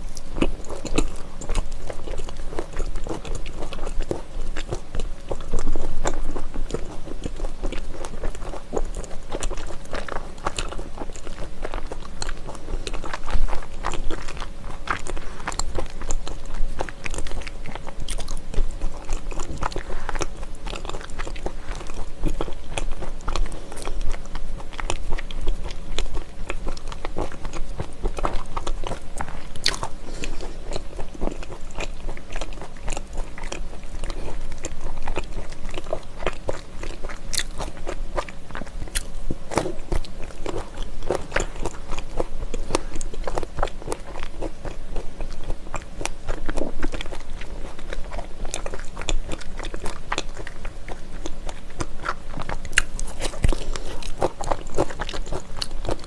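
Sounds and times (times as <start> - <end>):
close chewing and biting: 0.0 - 56.0.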